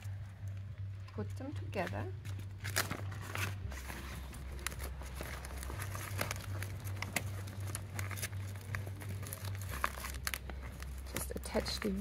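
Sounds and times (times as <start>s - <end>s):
steady low hum: 0.0s - 12.0s
fabric bag rustling: 1.8s - 12.0s.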